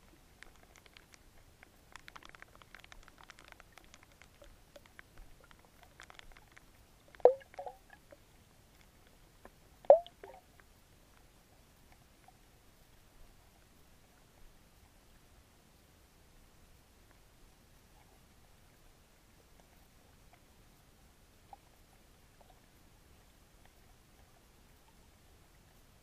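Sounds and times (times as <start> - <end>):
faint underwater ticks: 0.0 - 26.0.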